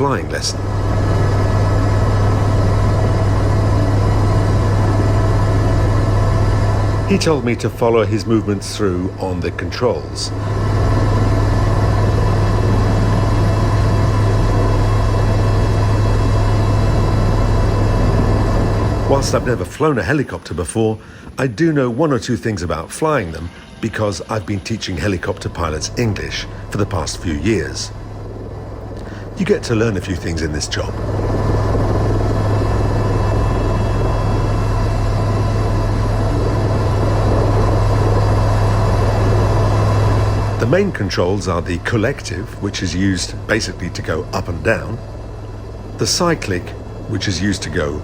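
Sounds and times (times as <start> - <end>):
faint whining tones: 0.0 - 48.0
helicopter engine and rotors: 0.0 - 48.0.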